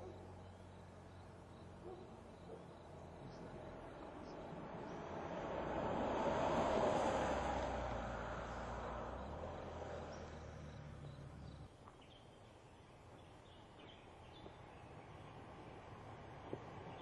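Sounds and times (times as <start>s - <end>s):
car engine and tyre noise: 0.0s - 17.0s
low outdoor hum: 0.0s - 17.0s.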